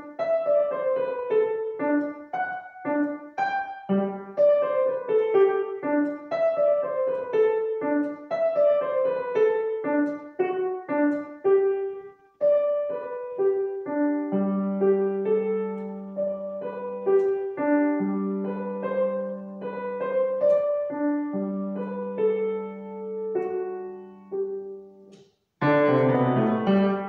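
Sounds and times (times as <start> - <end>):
grand piano piece: 0.0 - 27.0.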